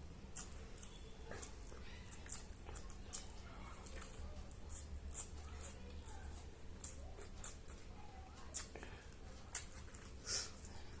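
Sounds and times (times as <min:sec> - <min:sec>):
person chewing with wet smacks: 0:00.0 - 0:11.0.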